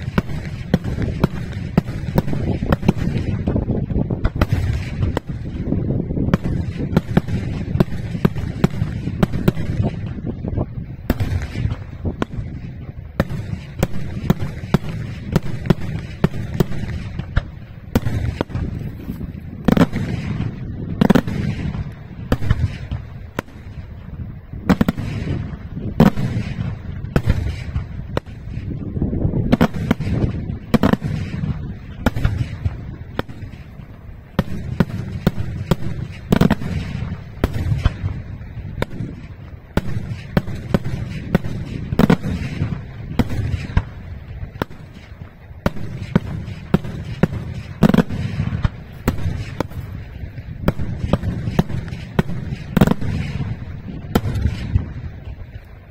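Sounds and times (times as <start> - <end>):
continuous low rumble: 0.0 - 55.9
fireworks bursting bangs: 0.0 - 55.9.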